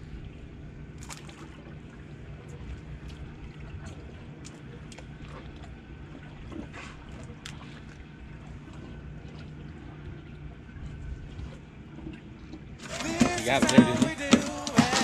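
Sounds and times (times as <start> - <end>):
steady low hum: 0.0 - 15.0
water splashing and trickling: 0.0 - 15.0.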